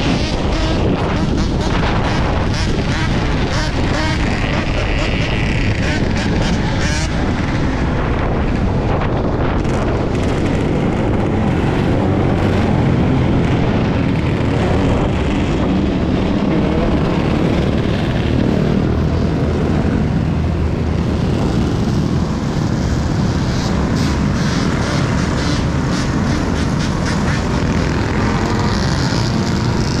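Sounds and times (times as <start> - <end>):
road noise: 0.0 - 30.0
wind rush: 0.0 - 30.0.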